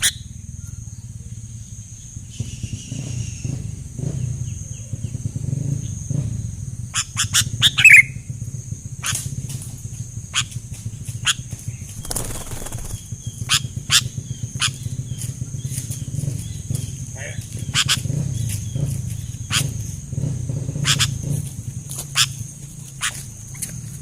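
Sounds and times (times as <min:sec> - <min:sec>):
bulbuls chirping: 0:00.0 - 0:02.8, 0:06.8 - 0:09.3, 0:10.0 - 0:24.0.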